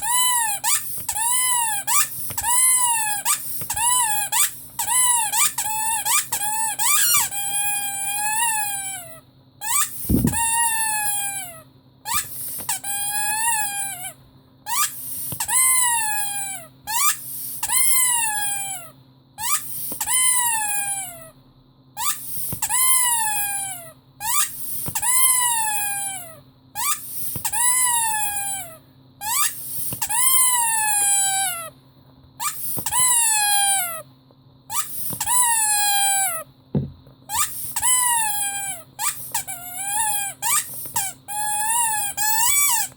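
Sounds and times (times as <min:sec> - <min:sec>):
squeaky rubber toy squeaking: 0:00.0 - 0:21.3, 0:22.0 - 0:31.7, 0:32.4 - 0:34.1, 0:34.7 - 0:36.5, 0:37.3 - 0:42.9.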